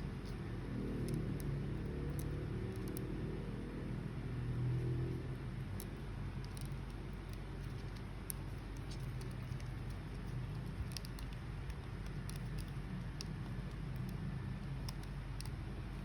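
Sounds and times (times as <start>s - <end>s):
faint small ticks and clicks: 0.0s - 16.0s
low background rumble: 0.0s - 16.0s.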